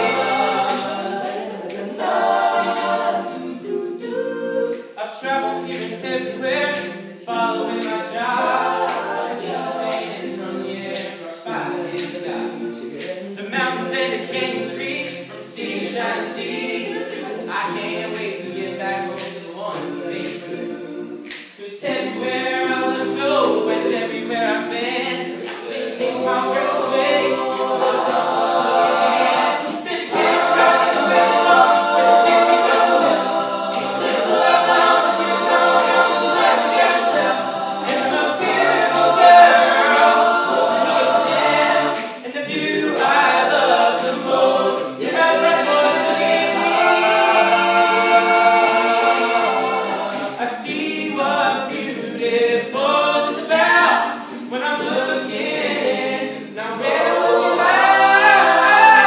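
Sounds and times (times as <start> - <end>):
male choir singing in harmony: 0.0 - 59.0.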